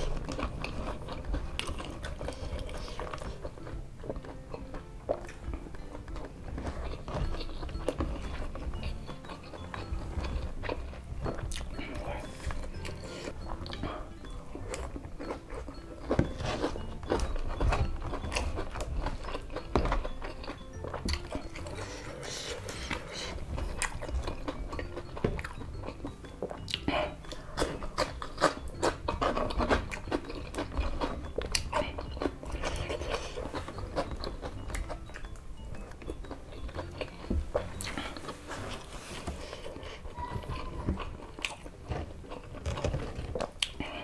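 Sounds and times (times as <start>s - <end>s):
wet chewing: 0.0s - 44.0s.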